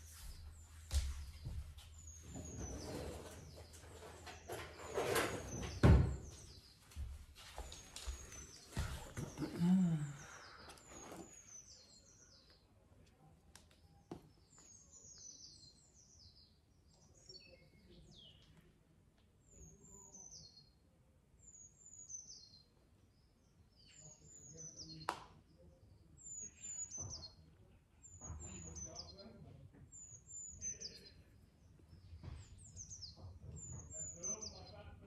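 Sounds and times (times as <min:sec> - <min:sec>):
faint bird chirping: 0:00.0 - 0:35.0.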